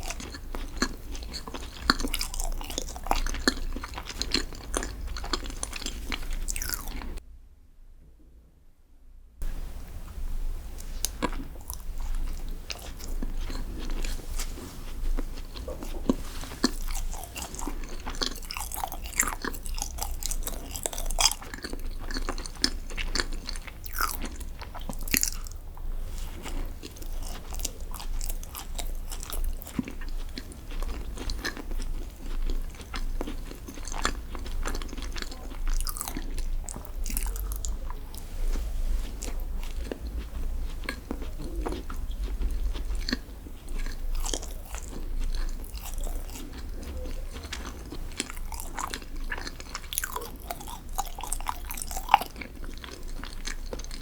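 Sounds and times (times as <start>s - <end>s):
chewing crunchy chocolate: 0.0s - 7.2s, 10.8s - 54.0s.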